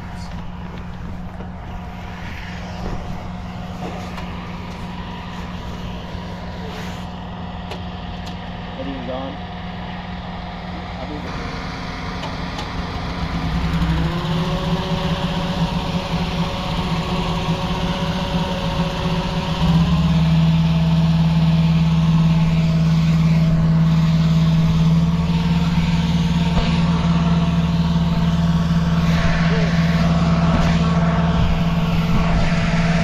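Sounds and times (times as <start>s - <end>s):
engine-driven inflator fan running: 0.0s - 33.0s.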